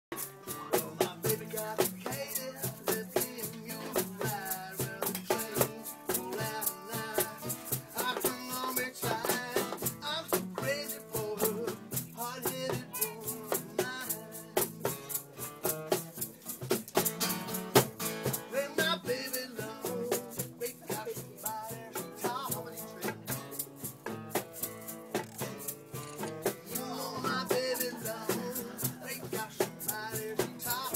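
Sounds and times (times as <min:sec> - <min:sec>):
man singing: 0:00.1 - 0:15.2, 0:18.2 - 0:23.6, 0:26.1 - 0:30.9
acoustic guitar strumming: 0:00.1 - 0:30.9
cajon drumming: 0:00.1 - 0:30.9
egg shaker: 0:00.2 - 0:30.9.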